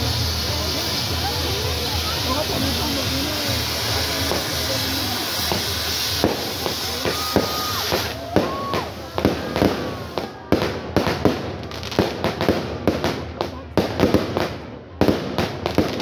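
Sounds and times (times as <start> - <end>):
firecracker bangs and crackles: 0.0 - 16.0
firework whistles: 0.0 - 16.0
hiss of spraying sparks: 0.0 - 16.0.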